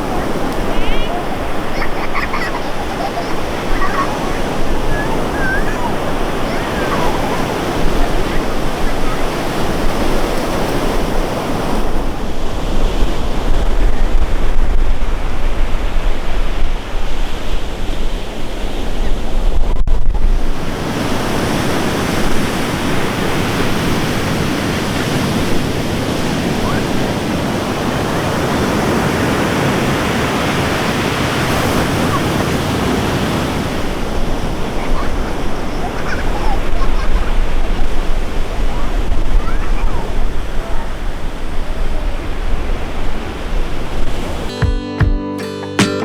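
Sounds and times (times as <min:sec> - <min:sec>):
sea waves washing on beach: 0:00.0 - 0:44.5
wind buffeting microphone: 0:00.0 - 0:44.5.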